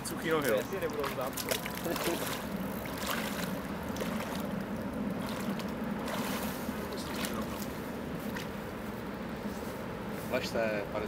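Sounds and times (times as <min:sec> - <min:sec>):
water sloshing around legs: 0:00.0 - 0:08.9
open-air rumble and hiss: 0:00.0 - 0:11.0.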